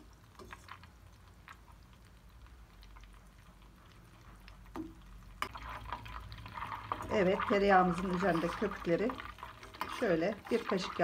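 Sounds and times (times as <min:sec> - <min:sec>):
butter crackling in saucepan: 0:00.0 - 0:11.0.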